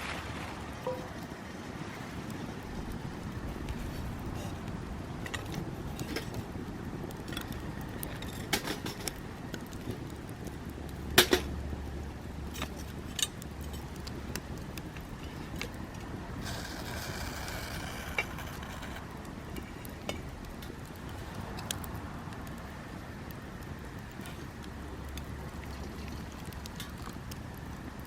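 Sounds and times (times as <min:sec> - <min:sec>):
campfire crackling: 0:00.0 - 0:28.0
low fire rumble: 0:00.0 - 0:28.0.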